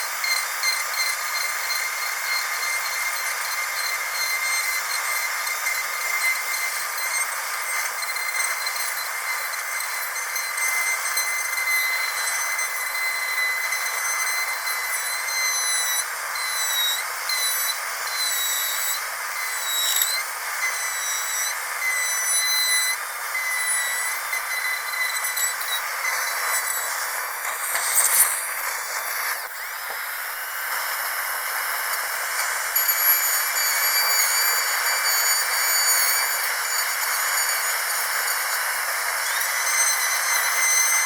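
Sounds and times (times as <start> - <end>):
dentist's drill whining: 0.0 - 41.0.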